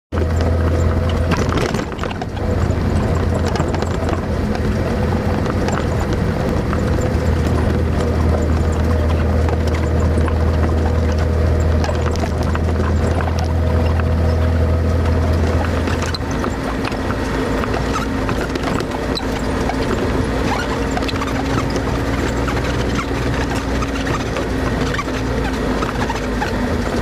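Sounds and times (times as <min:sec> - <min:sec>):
rattles and knocks from bumps: 0:00.1 - 0:27.0
vehicle engine drone: 0:00.1 - 0:27.0.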